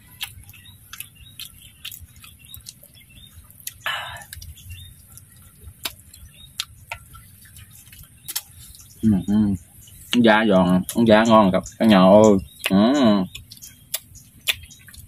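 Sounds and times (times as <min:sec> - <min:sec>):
crispy food chewing crunches: 0:00.0 - 0:15.0.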